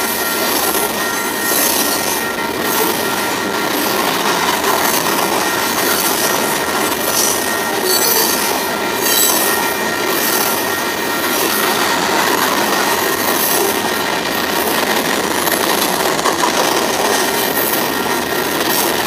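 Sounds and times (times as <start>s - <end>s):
high wheel squeal: 0.0s - 19.0s
train wheels rumbling on rail: 0.0s - 19.0s.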